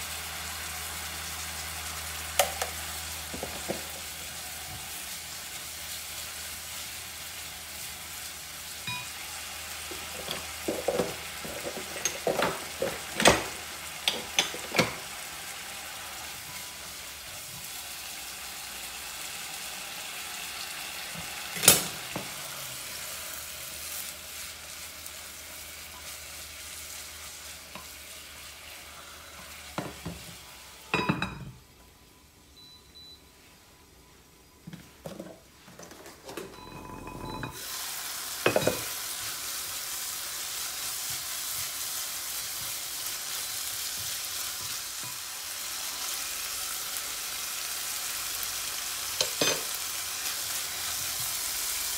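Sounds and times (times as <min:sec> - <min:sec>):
chicken sizzling in oil: 0:00.0 - 0:31.2, 0:37.5 - 0:51.9.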